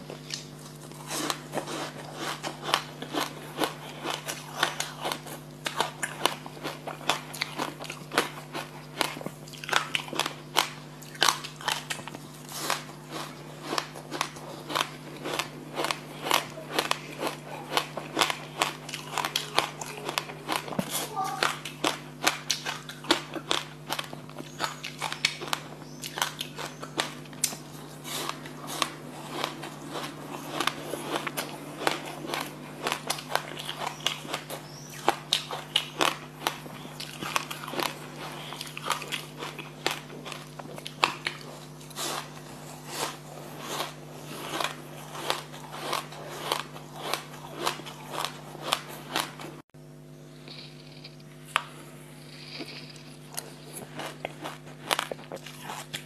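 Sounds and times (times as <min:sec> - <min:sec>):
crunching and chewing seeds: 0:00.0 - 0:49.6, 0:50.2 - 0:56.0.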